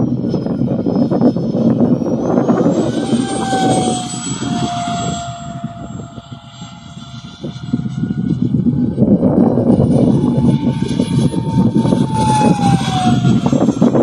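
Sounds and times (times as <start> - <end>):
model jet fan whine flying past: 0.0 - 14.0.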